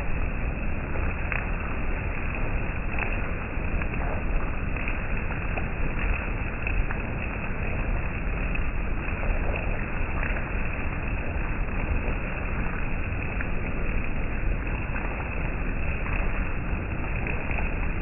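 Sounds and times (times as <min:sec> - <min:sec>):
faint drip ticks: 0:00.0 - 0:18.0
rain falling: 0:00.0 - 0:18.0.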